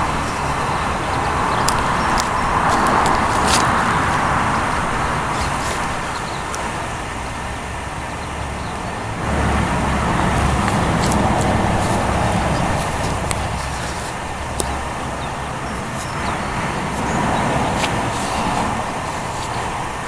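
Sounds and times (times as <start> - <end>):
distant road traffic: 0.0 - 20.0.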